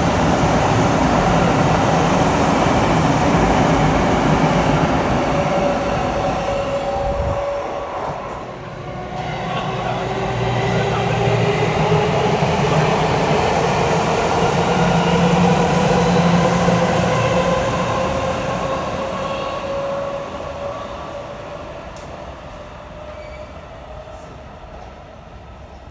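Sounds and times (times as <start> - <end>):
steady train whine rising in pitch: 0.0 - 22.0
train rushing past: 0.0 - 25.5.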